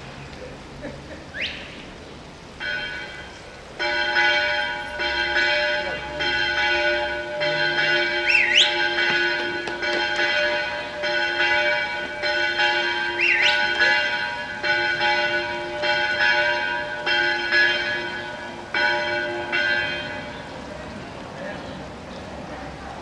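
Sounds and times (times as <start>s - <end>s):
church bells ringing: 2.6s - 21.2s.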